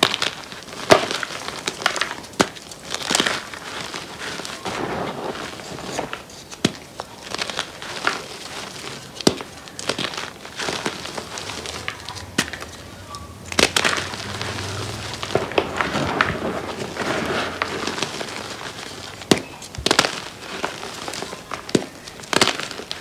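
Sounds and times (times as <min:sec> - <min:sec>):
chalk pieces snapping: 0:00.0 - 0:04.6, 0:05.6 - 0:16.9, 0:17.6 - 0:23.0
chalk crunching and crumbling: 0:00.0 - 0:23.0.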